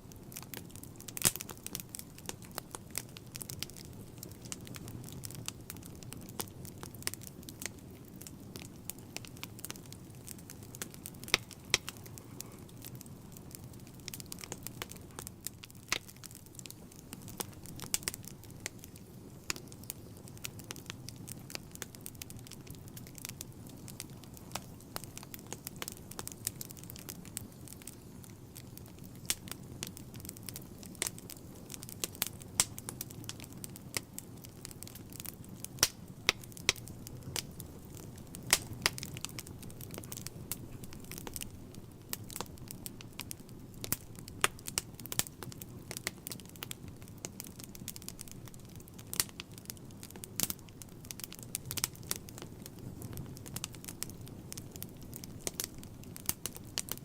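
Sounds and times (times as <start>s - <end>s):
fire crackles and pops: 0.0s - 57.0s
low rumble of flames: 0.0s - 57.0s.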